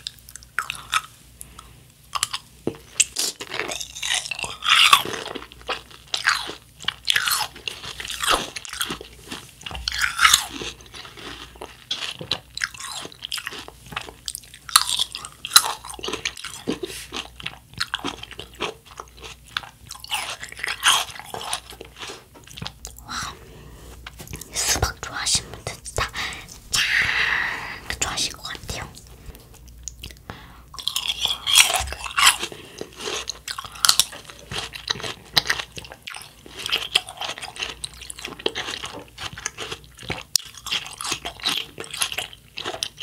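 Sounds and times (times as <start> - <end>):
wet crunchy chewing: 0.0 - 23.1, 27.9 - 43.0.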